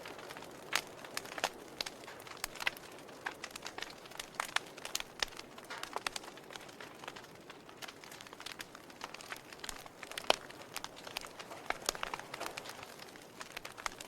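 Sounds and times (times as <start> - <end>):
soft steady hiss: 0.0 - 14.0
wood fire crackling and popping: 0.0 - 14.0.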